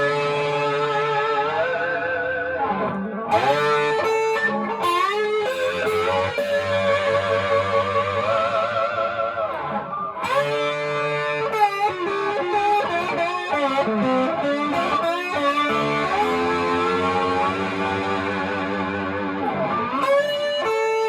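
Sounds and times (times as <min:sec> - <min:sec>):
slide electric guitar: 0:00.0 - 0:21.0.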